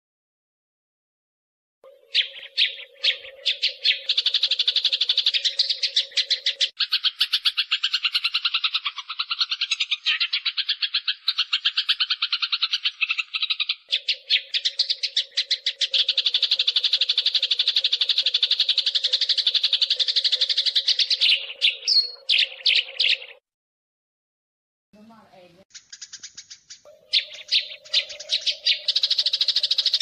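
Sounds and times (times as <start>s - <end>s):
sparrows chirping rapidly: 1.8s - 23.4s, 25.0s - 30.0s.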